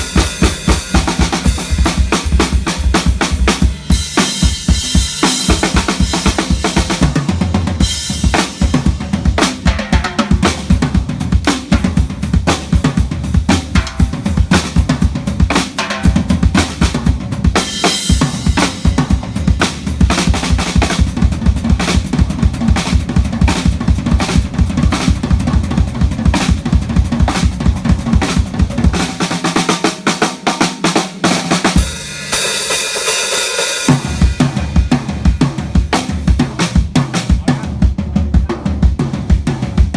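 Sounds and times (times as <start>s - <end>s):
drum kit fast beat: 0.0s - 39.9s.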